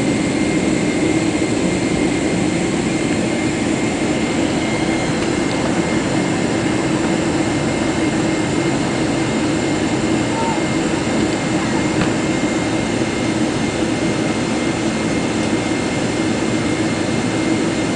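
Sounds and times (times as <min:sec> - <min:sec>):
high engine whines: 0:00.0 - 0:17.9
jet engine rushing noise: 0:00.0 - 0:17.9.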